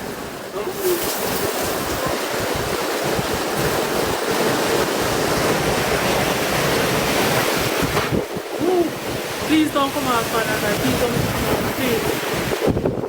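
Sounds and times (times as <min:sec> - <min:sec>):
heavy rain: 0:00.0 - 0:13.0
storm wind: 0:00.0 - 0:13.0
wind buffeting microphone: 0:00.0 - 0:13.0.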